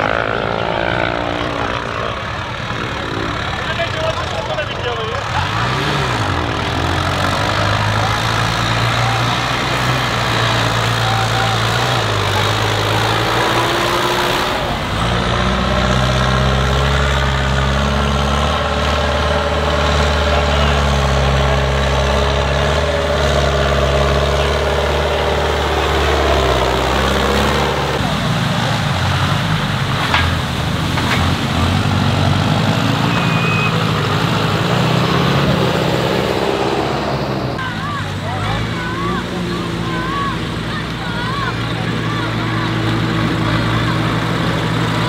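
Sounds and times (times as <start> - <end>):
deeper tractor engine: 0.0 - 45.0
tractor diesel engine working: 0.0 - 45.0.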